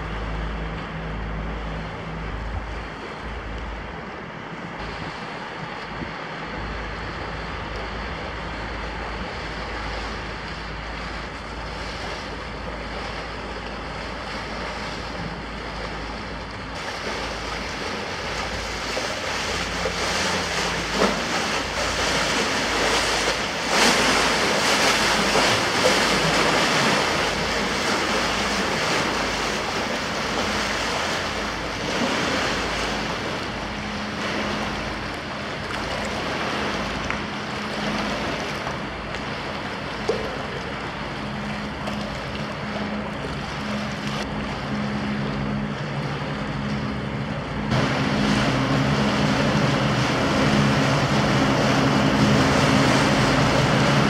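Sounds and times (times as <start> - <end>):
low engine rumble: 0.0 - 54.0
rushing water from hull wash: 0.0 - 54.0
wind buffeting microphone: 0.0 - 54.0.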